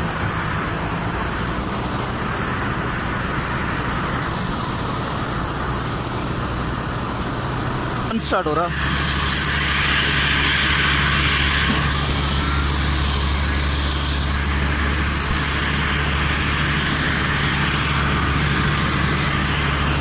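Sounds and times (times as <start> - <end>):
faint rising whine: 0.0 - 20.0
jet engines running: 0.0 - 20.0.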